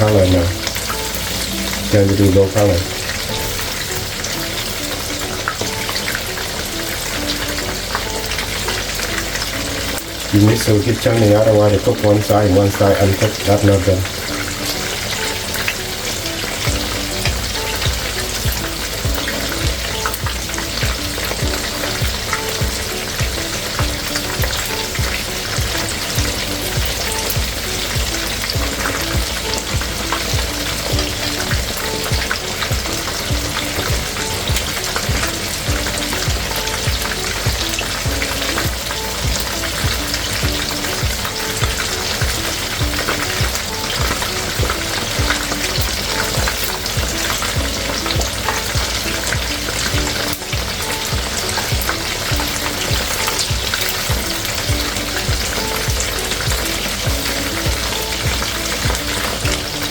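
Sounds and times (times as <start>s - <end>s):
chicken frying in hot oil: 0.0s - 59.9s.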